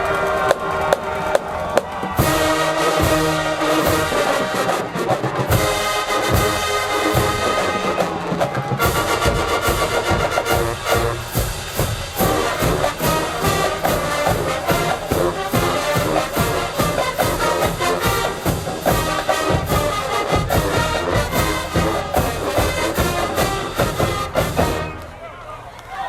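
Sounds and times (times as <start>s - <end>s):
drum strokes: 0.0s - 25.2s
marching band brass: 0.0s - 25.6s.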